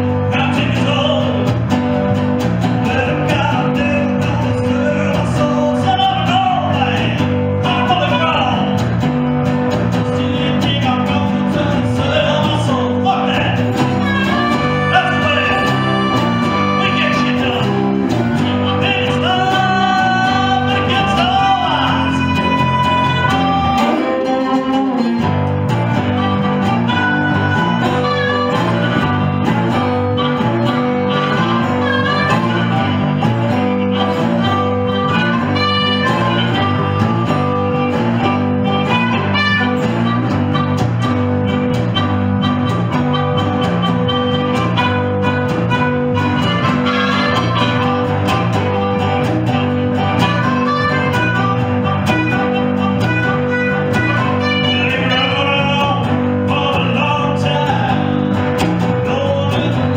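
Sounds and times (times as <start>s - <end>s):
electric bass: 0.0s - 59.9s
harmonica bent notes: 0.0s - 59.9s
resonator guitar: 0.0s - 59.9s.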